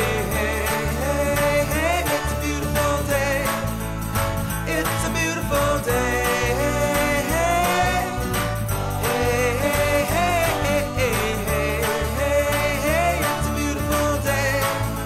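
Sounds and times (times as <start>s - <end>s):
upbeat pop music: 0.0s - 15.0s.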